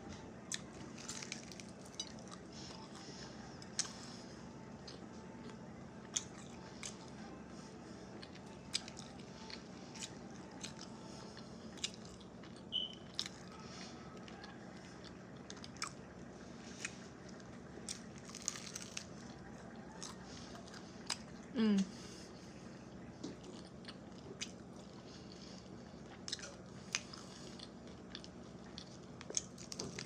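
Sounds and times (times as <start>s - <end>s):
faint steady hum: 0.0s - 30.0s
person chewing and crunching: 0.4s - 22.6s, 23.2s - 30.0s.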